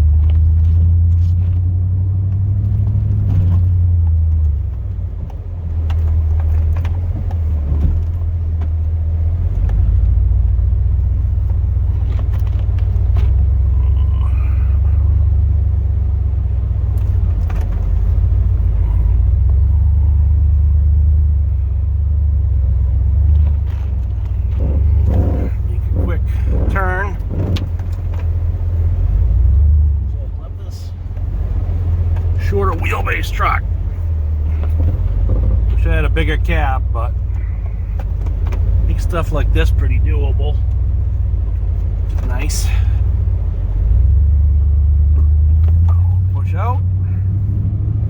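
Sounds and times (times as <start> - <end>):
engine low rumble: 0.0 - 48.0.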